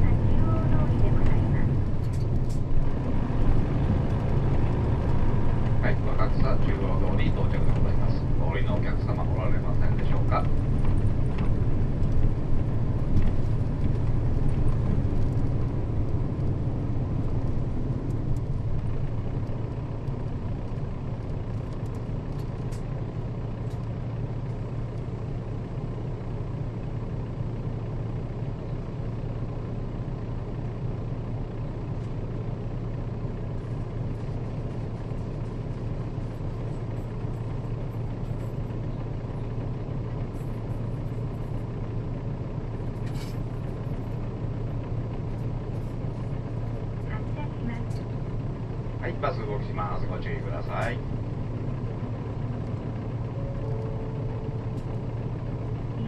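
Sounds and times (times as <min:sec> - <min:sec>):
bus engine from inside: 0:00.0 - 0:56.0.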